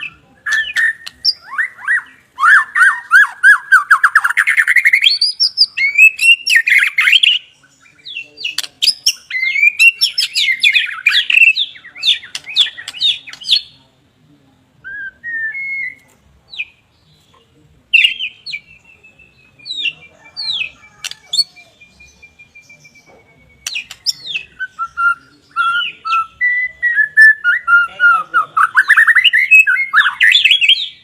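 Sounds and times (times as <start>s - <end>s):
bird singing: 0.0s - 13.8s, 14.8s - 31.0s.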